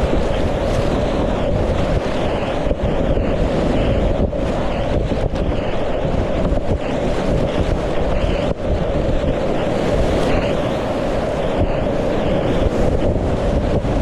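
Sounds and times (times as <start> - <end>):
rushing whitewater: 0.0 - 14.0
wind buffeting microphone: 0.0 - 14.0.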